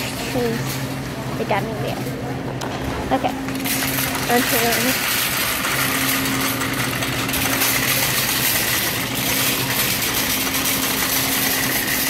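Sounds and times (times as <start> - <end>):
shopping cart rolling and rattling: 0.0 - 2.1, 3.5 - 12.0.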